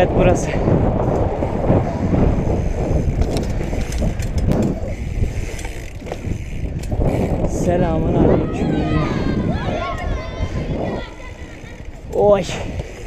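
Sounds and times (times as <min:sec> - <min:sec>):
rushing air: 0:00.0 - 0:11.6
bike clicks and rattles: 0:00.0 - 0:13.0
bike tyres rumbling: 0:00.0 - 0:13.0.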